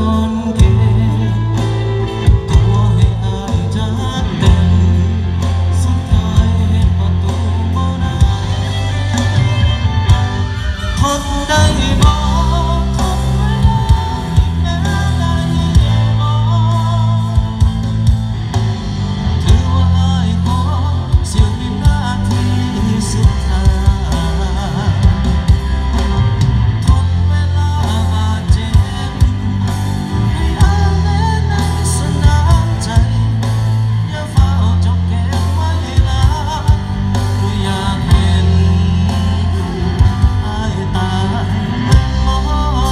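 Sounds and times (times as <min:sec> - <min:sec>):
heavy bass line: 0:00.0 - 0:42.9
person singing: 0:00.0 - 0:42.9
steady drum beat: 0:00.0 - 0:42.9.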